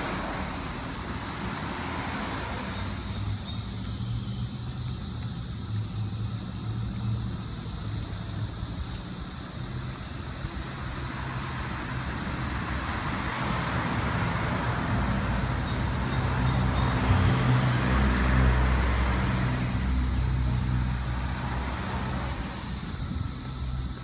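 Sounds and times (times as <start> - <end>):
cars driving past: 0.0 - 24.0.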